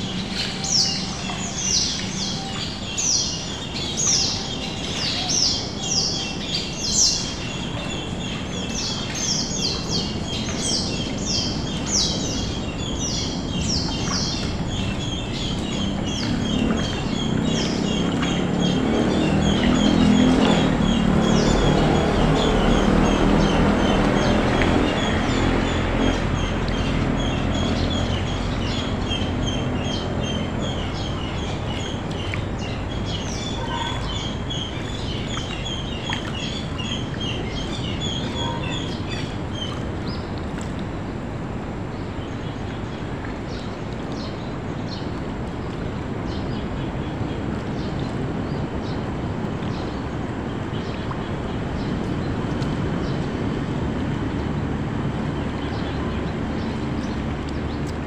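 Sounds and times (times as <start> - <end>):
birds chirping rapidly: 0.0 - 58.0
small boat engine running: 0.0 - 58.0.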